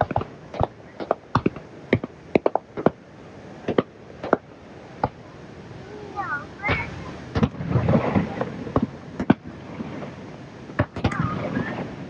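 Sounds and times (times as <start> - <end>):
fireworks bangs and cracks: 0.0 - 3.0, 3.6 - 5.2, 5.8 - 12.0.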